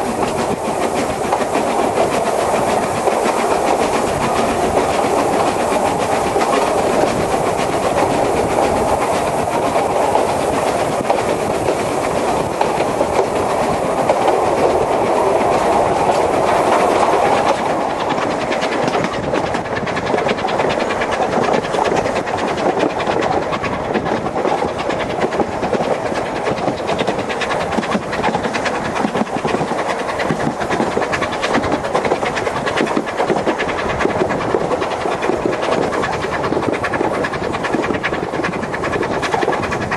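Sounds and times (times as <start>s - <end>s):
high steam hiss: 0.0s - 39.9s
rumble of carriages: 0.0s - 39.9s
train wheels clicking over rail joints: 0.0s - 39.9s.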